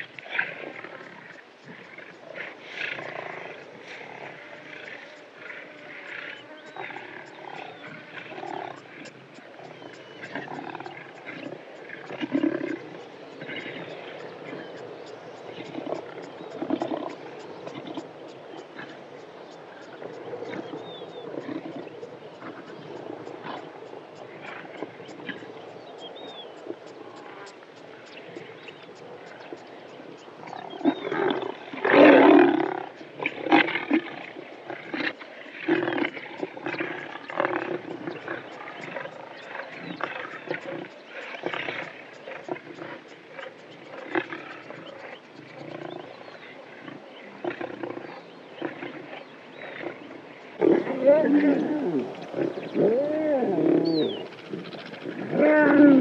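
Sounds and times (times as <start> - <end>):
lions growling: 0.2 - 19.2, 20.1 - 56.0.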